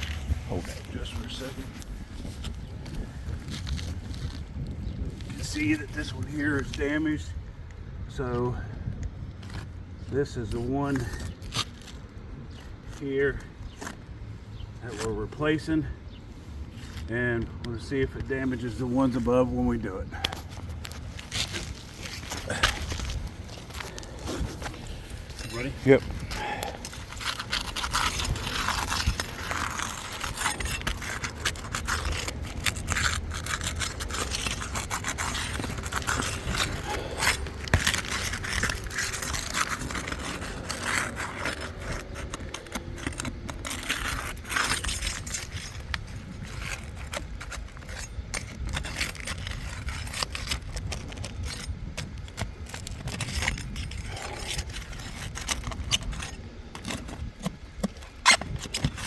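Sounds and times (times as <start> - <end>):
roof shingle scraping: 0.0 - 7.5, 8.1 - 59.0.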